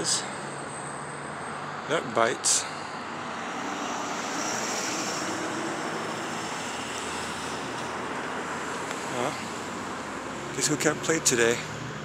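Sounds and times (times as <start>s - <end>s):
passing vehicle rushing: 0.0s - 12.0s.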